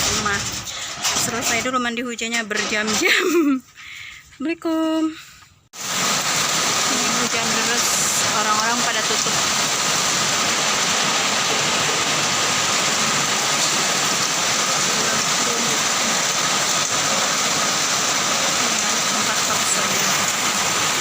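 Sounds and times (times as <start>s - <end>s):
heavy rain falling: 0.0s - 1.6s, 5.8s - 21.0s.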